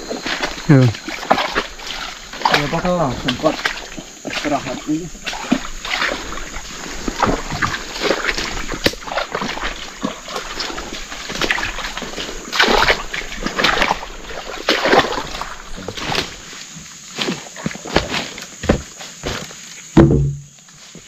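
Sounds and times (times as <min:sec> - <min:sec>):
footsteps squelching through mud: 0:00.0 - 0:19.9.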